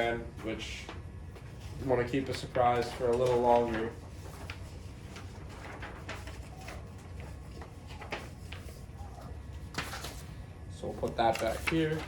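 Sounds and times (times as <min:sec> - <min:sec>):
low room hum: 0:00.0 - 0:12.0
paper rustling: 0:00.4 - 0:12.0.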